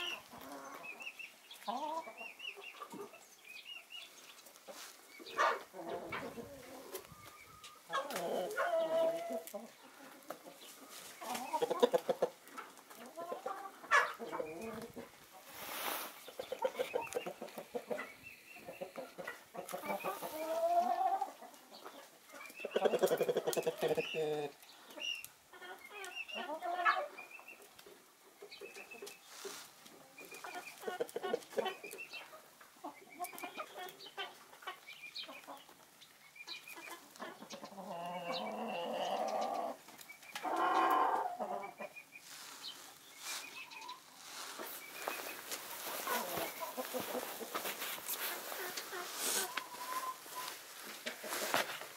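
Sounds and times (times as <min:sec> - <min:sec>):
chicken drawn-out calls: 0:00.0 - 0:03.1, 0:04.7 - 0:27.2, 0:28.7 - 0:35.8, 0:36.6 - 0:51.9
chickens clucking: 0:00.0 - 0:51.9.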